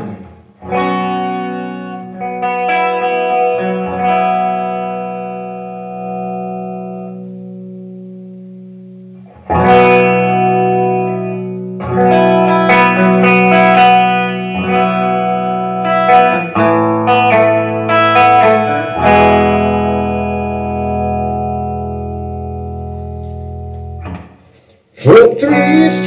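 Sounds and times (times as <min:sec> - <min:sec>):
guitar chords ringing: 0:00.0 - 0:26.0
single picked guitar notes: 0:00.0 - 0:26.0.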